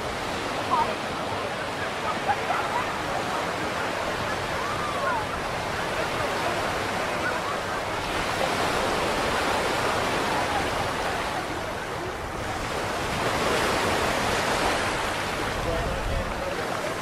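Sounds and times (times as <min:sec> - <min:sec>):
surf washing on beach: 0:00.0 - 0:17.0.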